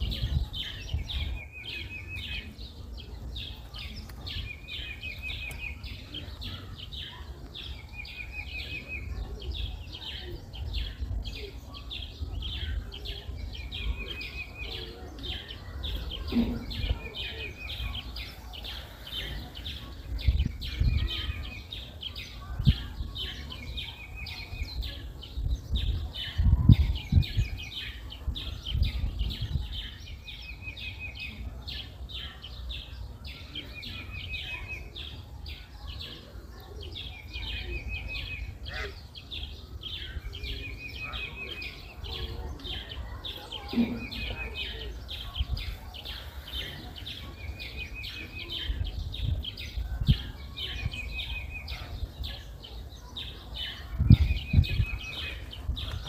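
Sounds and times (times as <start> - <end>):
bird chirps: 0.1 - 56.0.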